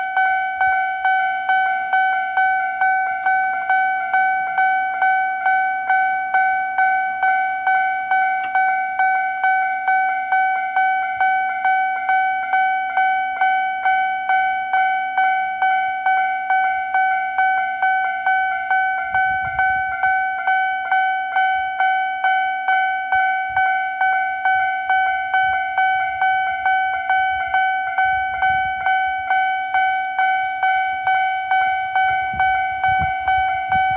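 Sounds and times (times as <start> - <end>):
level crossing bell: 0.0 - 33.9.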